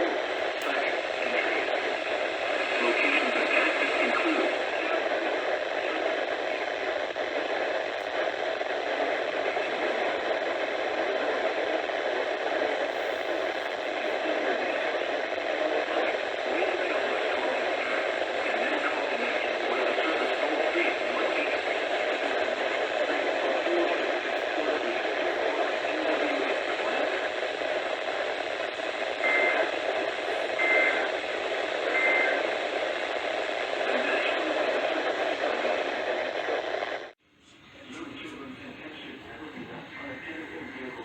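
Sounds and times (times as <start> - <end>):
radio static hiss: 0.0 - 41.0.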